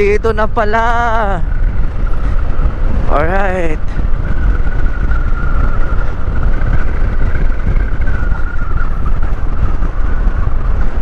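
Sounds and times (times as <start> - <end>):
motorcycle engine drone: 0.0 - 11.0
wind rumble on microphone: 0.0 - 11.0.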